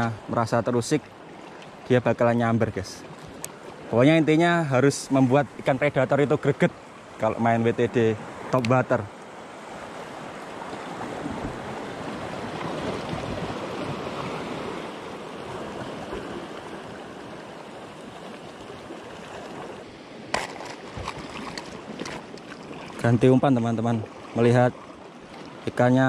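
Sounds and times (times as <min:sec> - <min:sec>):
waves lapping on rocky shore: 0:00.0 - 0:26.0.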